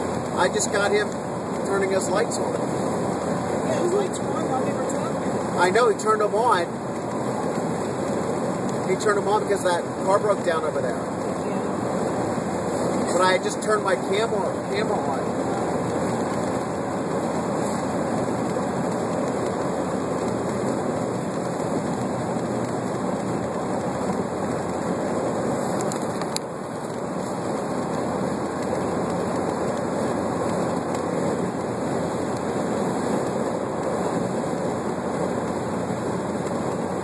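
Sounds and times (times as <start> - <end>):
road and tyre noise: 0.0 - 37.0.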